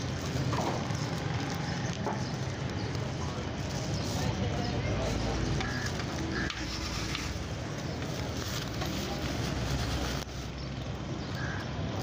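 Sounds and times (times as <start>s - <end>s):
faint voices: 0.0s - 12.0s
passing traffic rumble: 0.0s - 12.0s.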